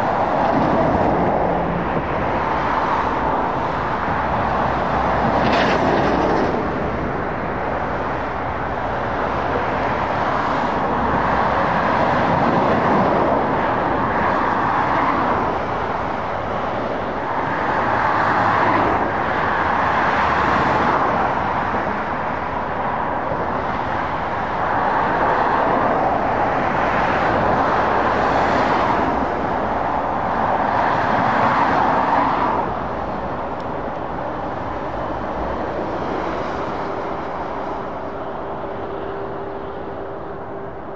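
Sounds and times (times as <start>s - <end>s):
lorries and cars passing: 0.0s - 40.9s.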